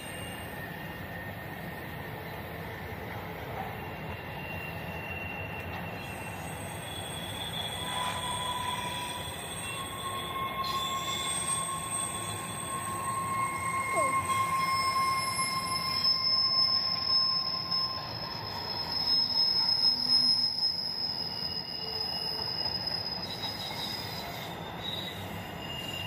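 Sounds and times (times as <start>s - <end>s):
train wheels rumbling on rails: 0.0s - 26.0s
wheels squealing: 3.8s - 26.0s.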